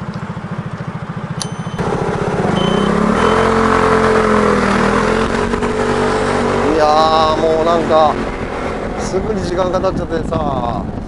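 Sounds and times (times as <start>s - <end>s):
scooter engine idling and pulling away: 0.0s - 9.3s.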